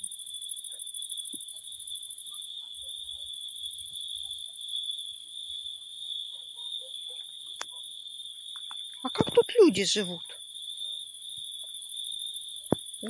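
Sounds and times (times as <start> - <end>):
crickets chirping: 0.0 - 13.0
higher pulsing insect trill: 0.0 - 13.0.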